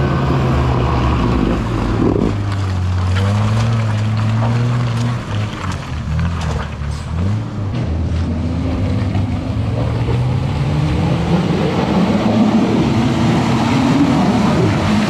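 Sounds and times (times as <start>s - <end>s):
car engine pulling under load: 0.0s - 15.0s.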